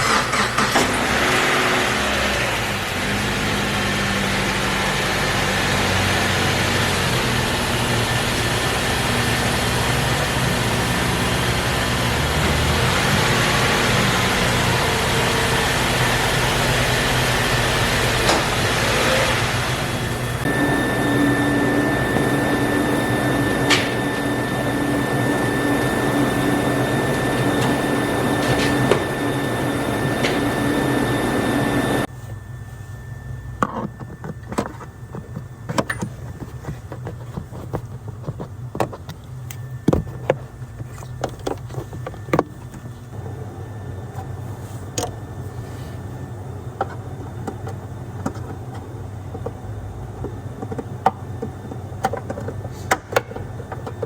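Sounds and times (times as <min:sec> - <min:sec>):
machine running with a whine: 0:00.0 - 0:54.0.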